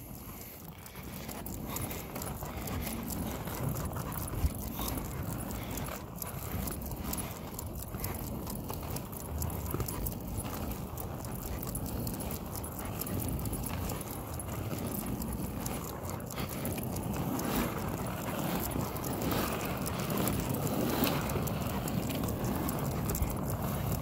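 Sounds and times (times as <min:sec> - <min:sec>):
dog panting: 0:00.0 - 0:24.0
paw and footsteps on pavement: 0:00.0 - 0:24.0.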